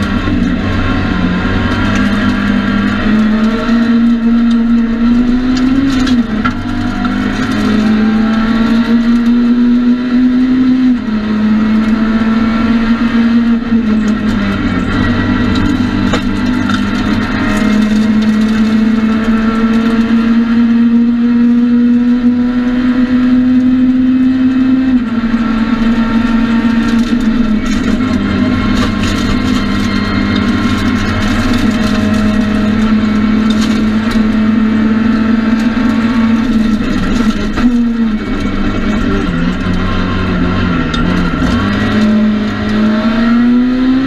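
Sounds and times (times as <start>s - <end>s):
rally car engine at high revs: 0.0s - 44.0s.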